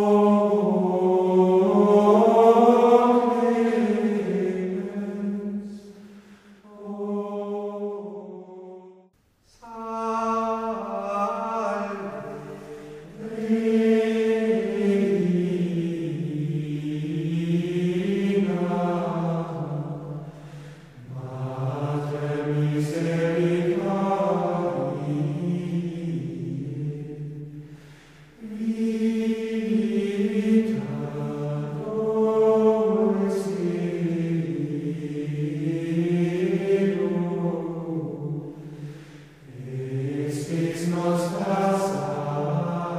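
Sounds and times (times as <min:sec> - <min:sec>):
choir chanting slowly: 0:00.0 - 0:42.9.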